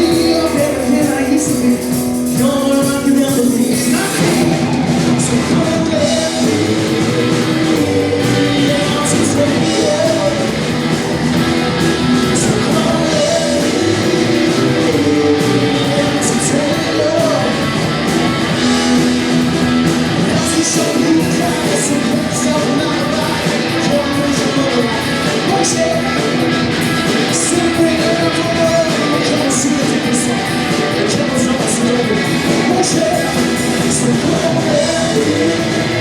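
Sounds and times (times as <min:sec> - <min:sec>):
guitar: 0:00.0 - 0:36.0
person singing: 0:00.0 - 0:36.0.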